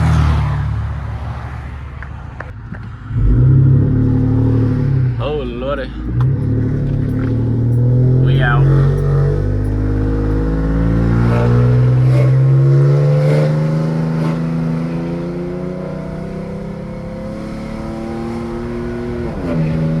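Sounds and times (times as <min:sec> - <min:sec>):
vehicle engine accelerating: 0:03.0 - 0:20.0.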